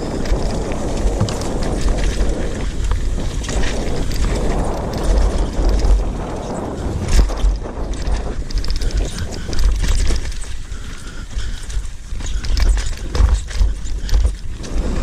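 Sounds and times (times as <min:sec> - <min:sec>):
bike clicks and knocks: 0:00.0 - 0:15.0
tyres on dirt: 0:00.0 - 0:15.0
wind buffeting microphone: 0:00.0 - 0:15.0.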